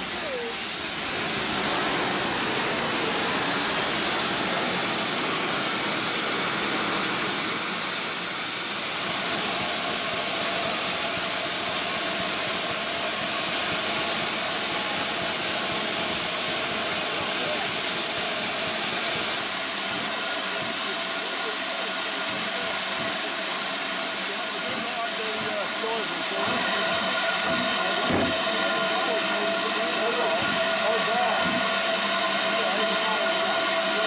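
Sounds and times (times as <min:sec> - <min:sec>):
steam hissing from safety valves: 0:00.0 - 0:34.0.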